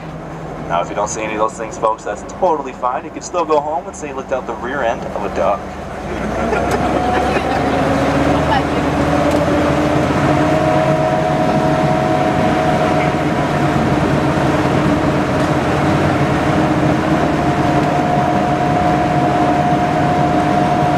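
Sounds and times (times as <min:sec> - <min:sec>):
boat engine droning: 0:00.0 - 0:20.9
steady engine whine: 0:00.0 - 0:20.9.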